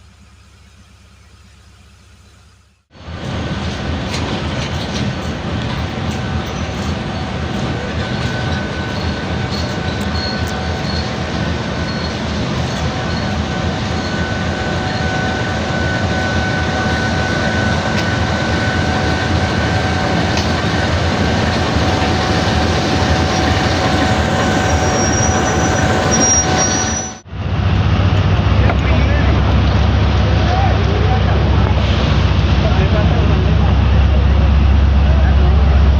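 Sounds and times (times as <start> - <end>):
train wheels clattering on track: 3.1 - 35.8.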